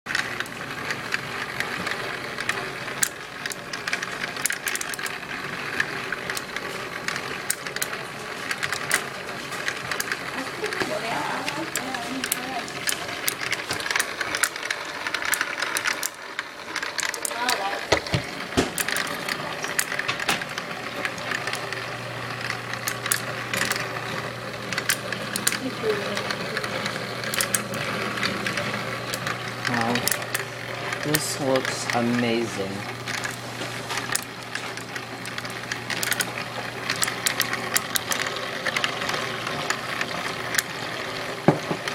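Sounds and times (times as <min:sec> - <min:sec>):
plastic toy clicks and knocks: 0:00.1 - 0:41.9
small electric motor humming: 0:00.1 - 0:41.9.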